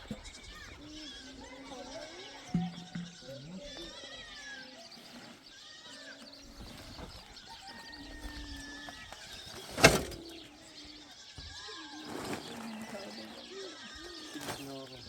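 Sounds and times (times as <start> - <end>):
faint animal calls: 0.0 - 15.0.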